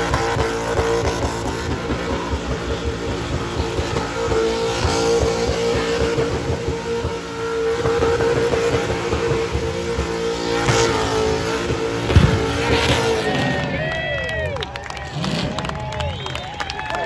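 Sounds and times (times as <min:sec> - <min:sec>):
car engine at high revs: 0:00.0 - 0:16.3.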